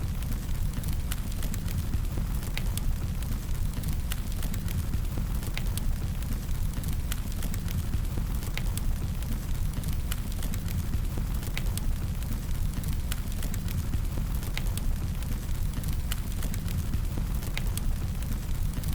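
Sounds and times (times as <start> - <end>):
fire crackles and pops: 0.0 - 18.9
low rumble of burning: 0.0 - 18.9.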